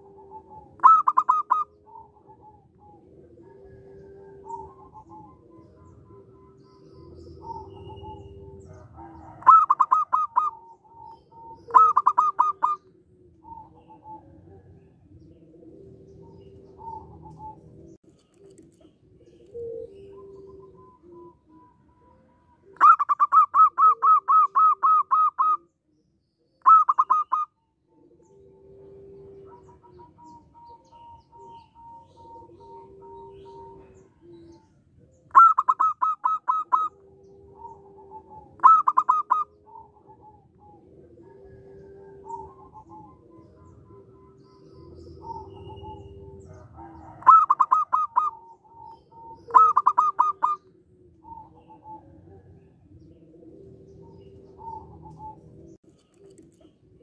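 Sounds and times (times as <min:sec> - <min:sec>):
dove rapid staccato cooing: 0:00.0 - 0:25.7, 0:26.6 - 0:57.0
soft low dove cooing: 0:00.0 - 0:57.0.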